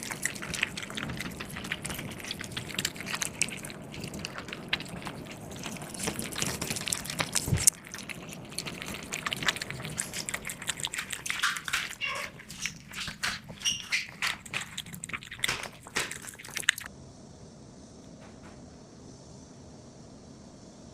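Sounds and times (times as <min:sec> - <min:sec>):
cats chewing cat food: 0:00.0 - 0:16.9.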